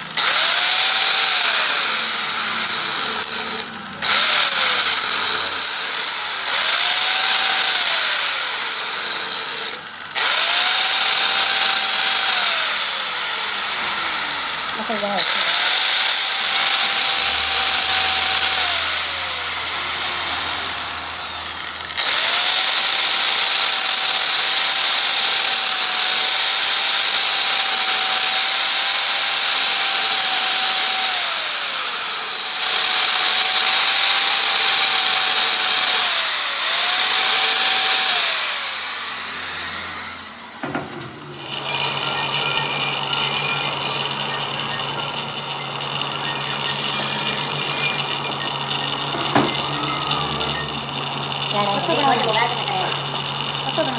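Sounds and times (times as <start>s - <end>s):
hand file on spinning shaft: 0.0s - 40.5s, 41.4s - 53.9s
grinding wheel whining: 0.0s - 53.9s
lathe humming: 0.0s - 53.9s.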